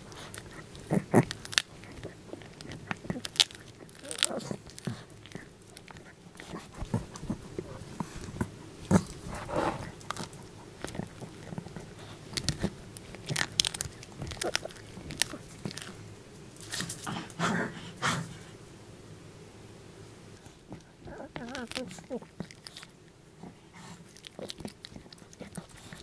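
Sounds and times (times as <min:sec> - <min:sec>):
dog crunching a bone: 0:00.0 - 0:17.2, 0:20.4 - 0:26.0.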